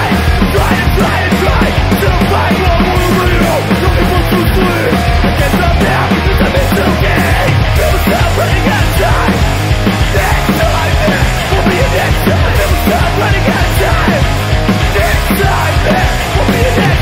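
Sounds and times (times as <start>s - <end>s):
hardcore punk rock band playing: 0.0s - 17.0s.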